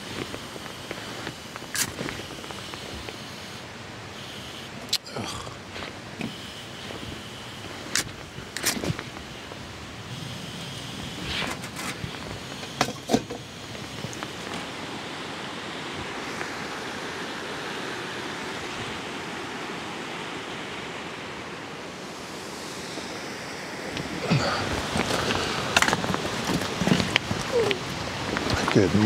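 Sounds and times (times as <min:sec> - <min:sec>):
water rushing: 0:00.0 - 0:29.0.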